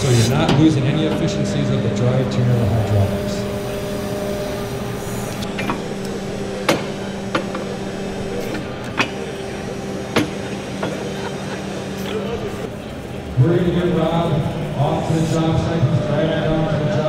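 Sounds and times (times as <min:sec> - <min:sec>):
electric hydraulic hum: 0:00.0 - 0:17.0
exhibition hall background noise: 0:00.0 - 0:17.0.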